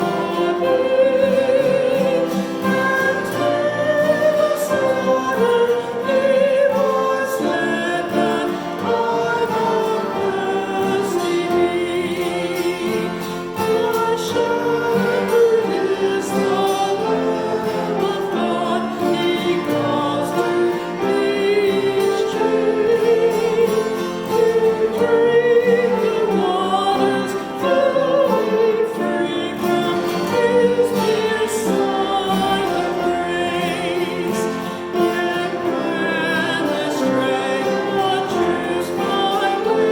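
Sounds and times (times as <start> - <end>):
choir singing: 0.0 - 39.9
instrumental accompaniment: 0.0 - 39.9.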